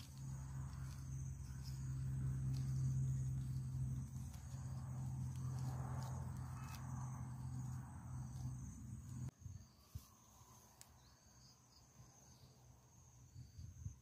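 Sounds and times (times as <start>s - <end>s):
low steady hum: 0.0s - 13.9s
crickets droning: 0.0s - 14.0s.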